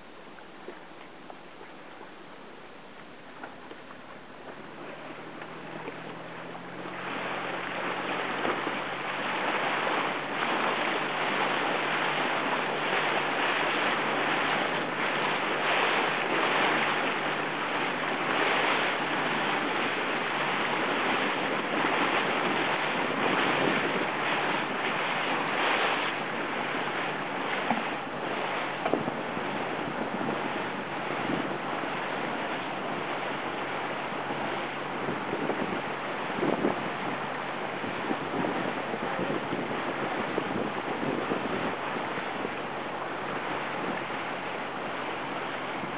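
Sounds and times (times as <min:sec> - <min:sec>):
water splashing around boat: 0:00.0 - 0:45.9
wind buffeting microphone: 0:03.4 - 0:45.9.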